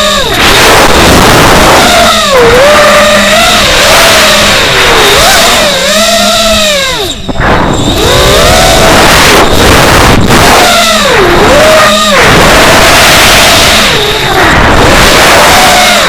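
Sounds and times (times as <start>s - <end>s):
drone motors whining: 0.0s - 16.0s
rushing noise: 0.0s - 16.0s.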